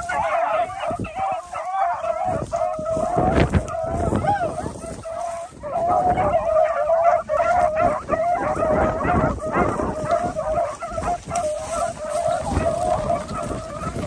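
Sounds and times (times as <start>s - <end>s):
dogs baying in chorus: 0.0s - 14.0s.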